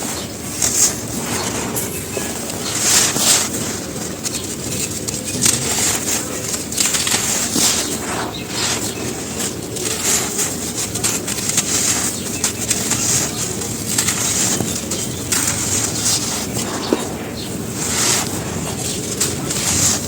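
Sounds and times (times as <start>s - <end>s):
charcoal ash crunching: 0.0s - 20.0s.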